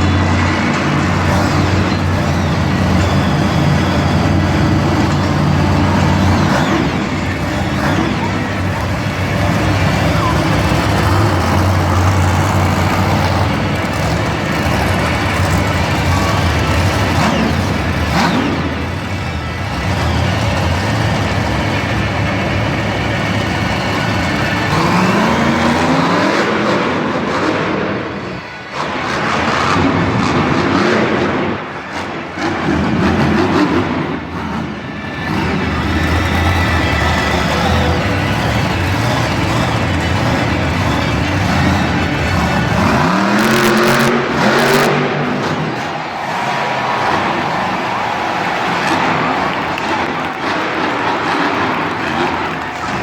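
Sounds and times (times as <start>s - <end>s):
monster truck engine running: 0.0s - 53.0s.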